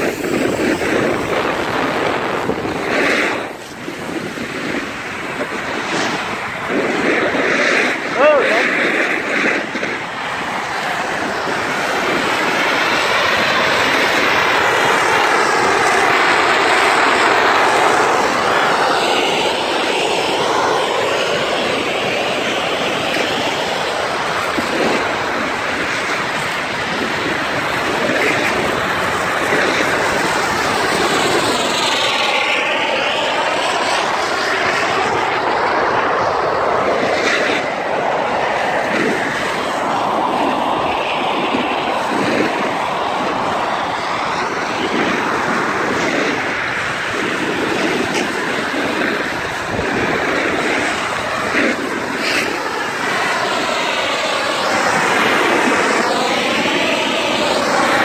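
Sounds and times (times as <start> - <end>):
snowmaking guns rushing: 0.0 - 58.0.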